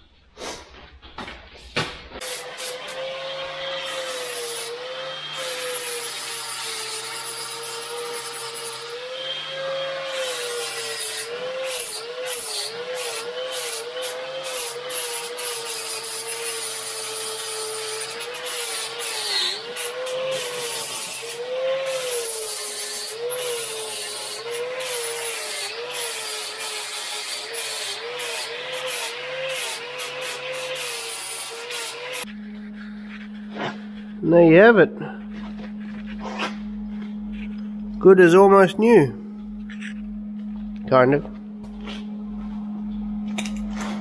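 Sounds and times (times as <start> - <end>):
angle grinder grinding steel: 2.2 - 38.6.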